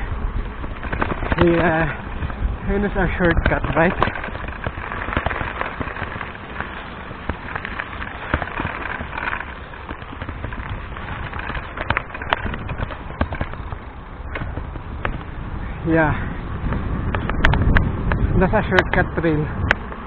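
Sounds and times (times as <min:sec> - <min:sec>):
bike rattling over bumps: 0:00.0 - 0:20.0
tyres on dirt trail: 0:00.0 - 0:20.0.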